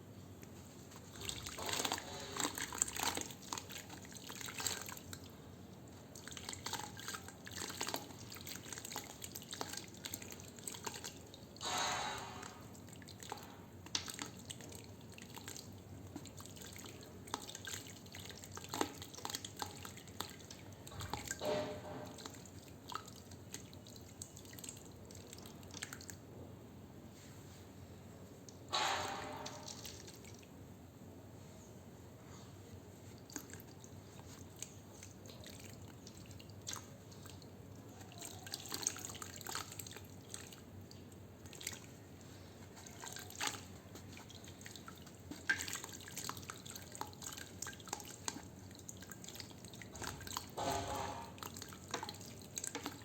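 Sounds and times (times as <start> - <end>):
water drips and small splashes: 0.3 - 26.3, 28.3 - 30.7, 32.7 - 53.0.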